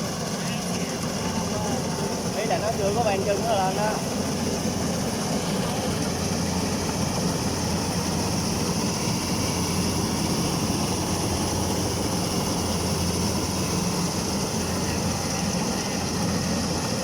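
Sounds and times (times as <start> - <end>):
combine harvester diesel engine: 0.0 - 17.0.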